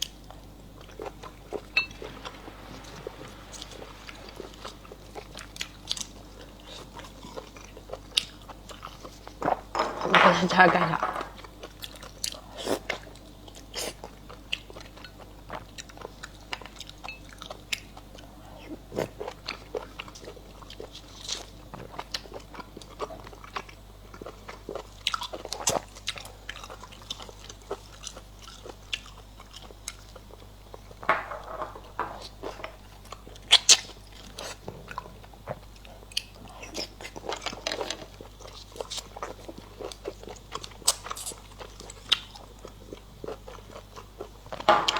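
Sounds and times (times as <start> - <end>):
person chewing and crunching: 0.0 - 2.6, 3.4 - 9.7, 11.4 - 30.9, 31.8 - 44.7.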